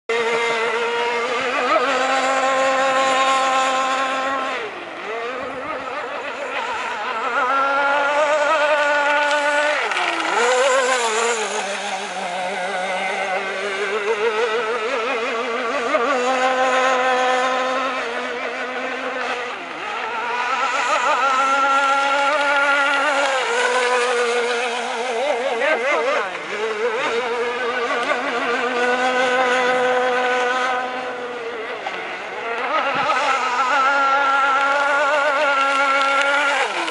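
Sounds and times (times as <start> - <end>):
model boat motor whining: 0.1 - 36.9.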